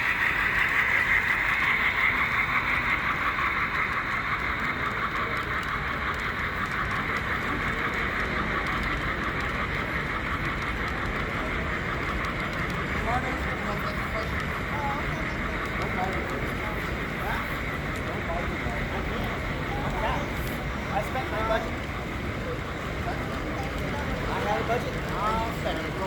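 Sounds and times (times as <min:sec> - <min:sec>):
model train rolling whir: 0:00.0 - 0:26.0.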